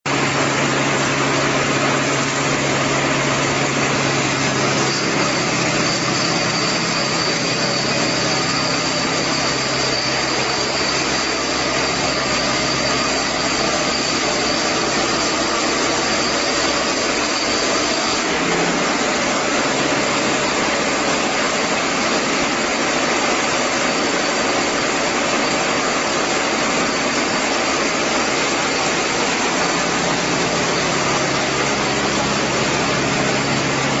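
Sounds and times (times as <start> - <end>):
engine drone: 0.1 - 34.0
thin high whine: 0.1 - 34.0.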